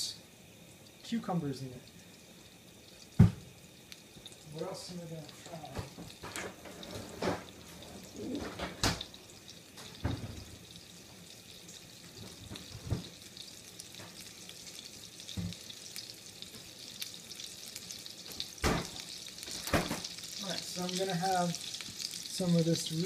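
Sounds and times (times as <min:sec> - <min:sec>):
patties sizzling in oil: 0:00.0 - 0:23.0.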